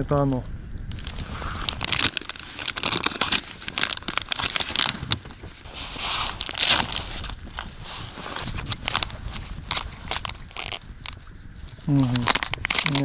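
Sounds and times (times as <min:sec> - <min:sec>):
plastic packaging crinkling: 0:00.9 - 0:13.0.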